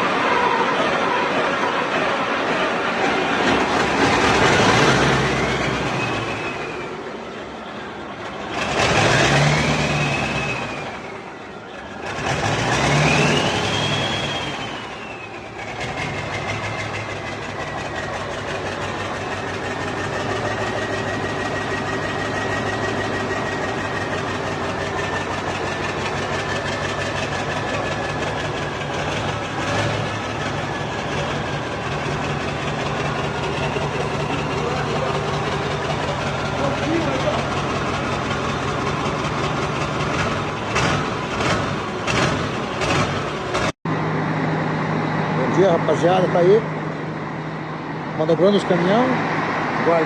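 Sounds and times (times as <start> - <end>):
diesel truck engine revving and idling: 0.0 - 50.0.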